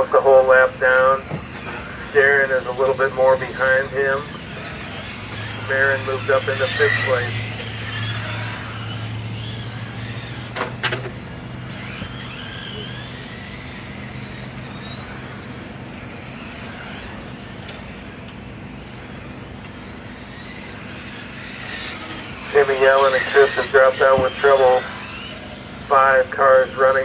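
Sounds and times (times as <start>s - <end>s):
electric rc cars whining: 0.0s - 27.0s.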